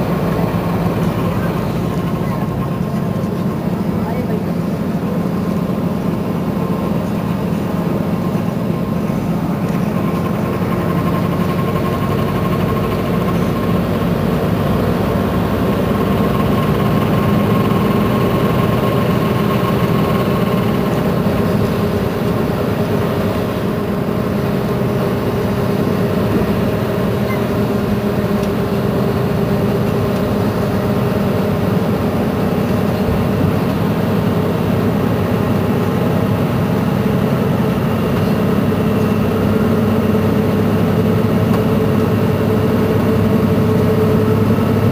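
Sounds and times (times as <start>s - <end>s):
bus engine idling: 0.0s - 44.9s.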